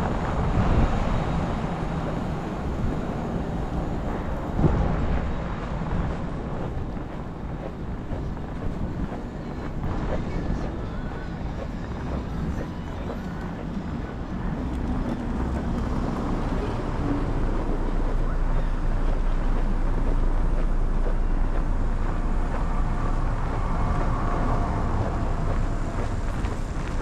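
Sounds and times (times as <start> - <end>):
street traffic passing: 0.0 - 27.0
wind buffeting microphone: 0.0 - 27.0.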